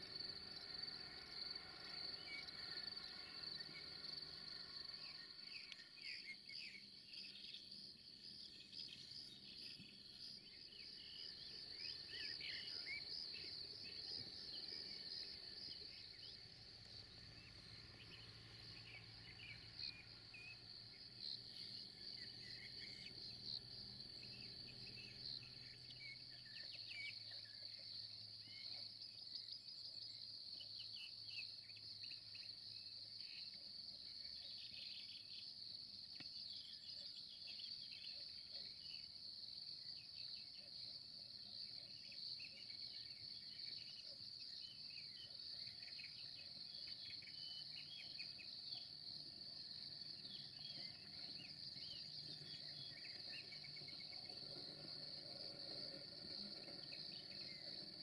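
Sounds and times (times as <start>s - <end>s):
crickets chirring: 0.0s - 58.0s.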